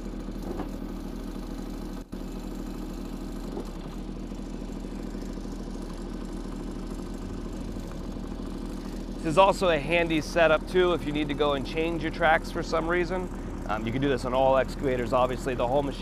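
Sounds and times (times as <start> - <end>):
mini excavator diesel engine running: 0.0 - 16.0.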